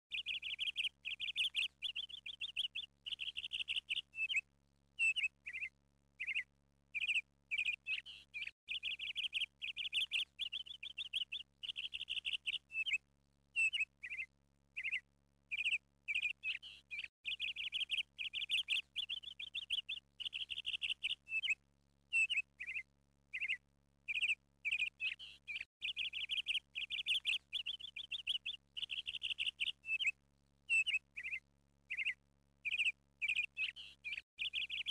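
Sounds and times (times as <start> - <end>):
bird chirping and trilling: 0.1 - 4.4, 5.0 - 13.0, 13.6 - 34.9.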